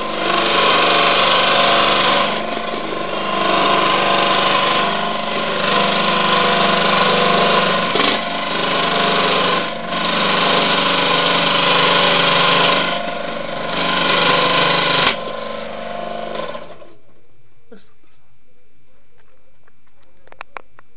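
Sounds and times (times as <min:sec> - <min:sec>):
saw blade rasping through metal: 0:00.0 - 0:16.9.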